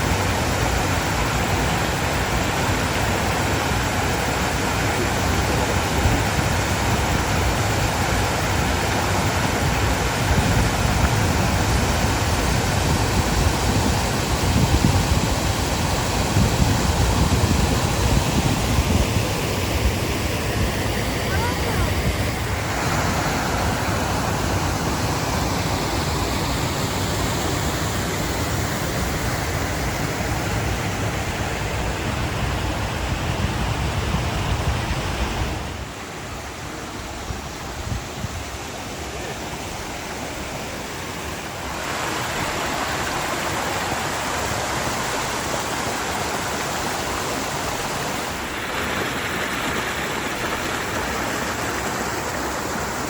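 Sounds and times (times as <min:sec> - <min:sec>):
mountain creek rushing: 0:00.0 - 0:53.0.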